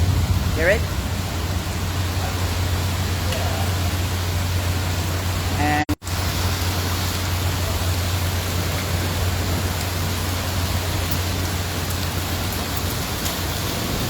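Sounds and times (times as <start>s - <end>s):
low rumble: 0.0s - 14.0s
rain hissing: 0.0s - 14.0s.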